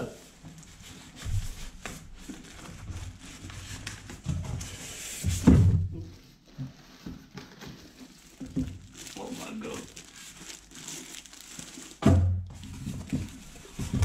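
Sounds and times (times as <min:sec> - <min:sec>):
foam and plastic bag rustling: 0:00.0 - 0:14.0.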